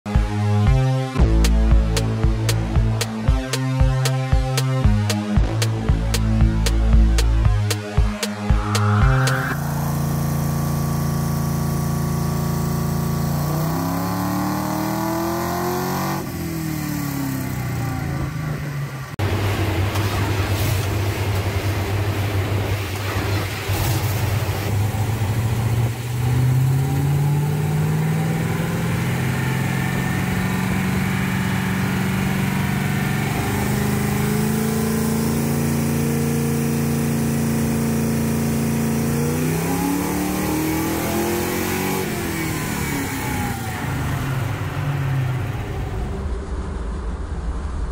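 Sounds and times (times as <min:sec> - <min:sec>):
car engine revving on dyno: 0:05.6 - 0:47.4.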